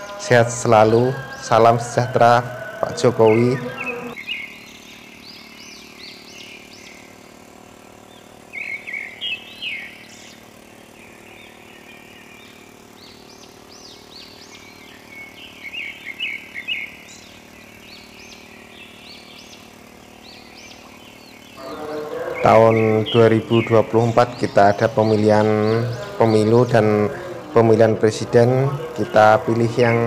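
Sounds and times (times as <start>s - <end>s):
birds chirping: 0.0s - 30.0s
faint steady hum: 0.0s - 30.0s.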